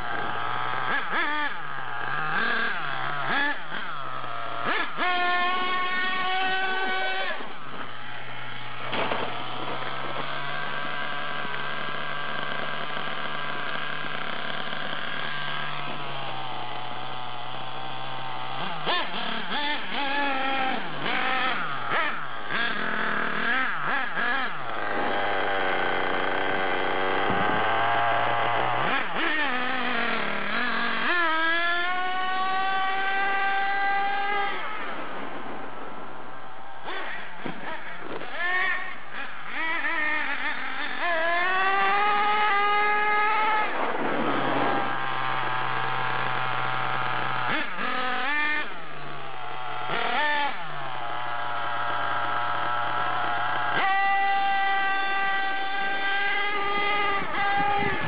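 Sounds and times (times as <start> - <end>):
rc car motor revving: 0.0 - 58.0.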